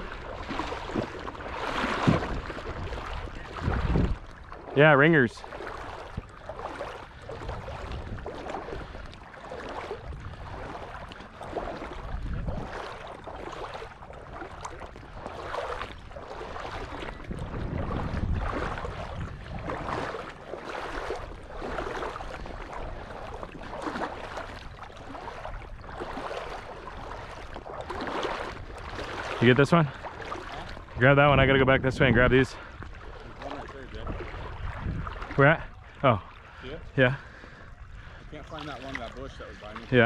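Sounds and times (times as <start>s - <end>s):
footsteps sloshing through water: 0.0s - 40.0s.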